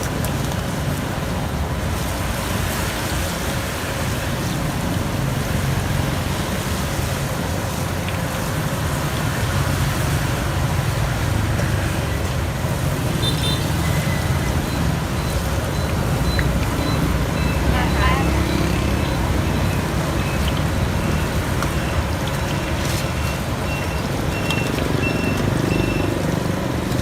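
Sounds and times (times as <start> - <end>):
street traffic passing: 0.0 - 27.0.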